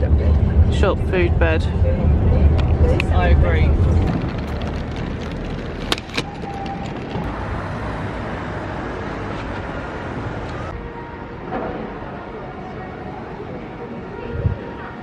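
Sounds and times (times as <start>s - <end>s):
vehicle engine rumble: 0.0s - 14.7s
road noise: 0.0s - 15.0s.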